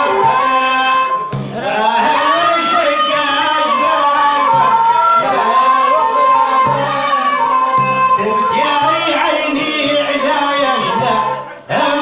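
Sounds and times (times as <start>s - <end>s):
percussion strokes: 0.0s - 12.0s.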